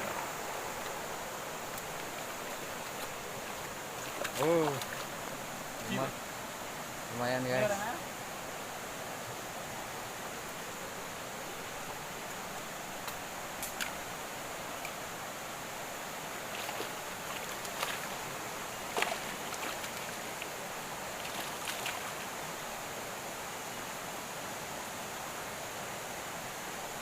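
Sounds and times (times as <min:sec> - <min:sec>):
river flowing: 0:00.0 - 0:27.0.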